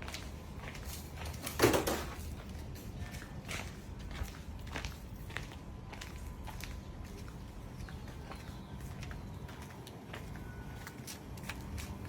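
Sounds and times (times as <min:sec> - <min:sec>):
footsteps clicking: 0:00.0 - 0:12.0
steady low rumble: 0:02.2 - 0:12.0.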